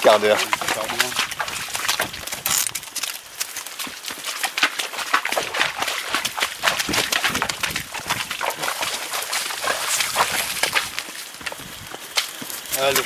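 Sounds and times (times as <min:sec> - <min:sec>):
branches and leaves rustling: 0:00.0 - 0:13.0.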